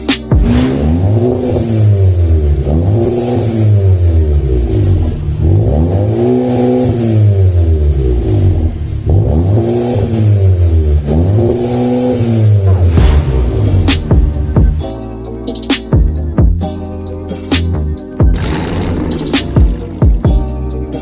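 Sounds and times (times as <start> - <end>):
car engine revving: 0.2 - 16.4, 17.6 - 21.0.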